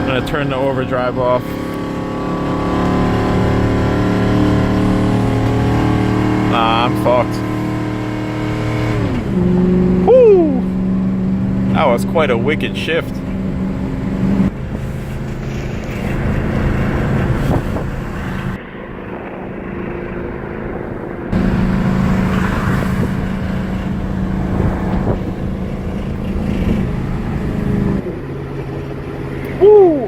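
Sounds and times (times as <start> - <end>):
car engine misfiring under throttle: 0.0 - 18.6, 21.3 - 29.6.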